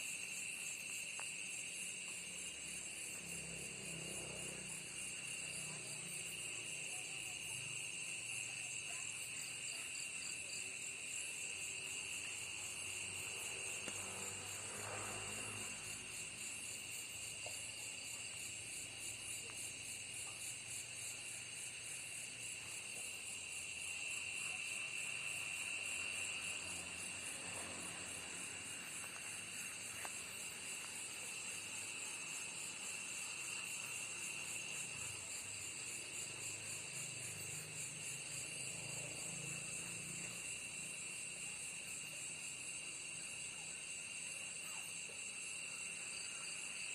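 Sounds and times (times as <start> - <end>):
insects trilling and buzzing: 0.0 - 46.9.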